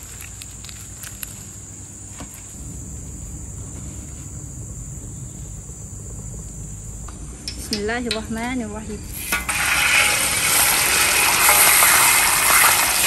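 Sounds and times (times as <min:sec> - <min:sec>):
insects chirring: 0:00.0 - 0:13.0
low rumble: 0:00.0 - 0:13.0.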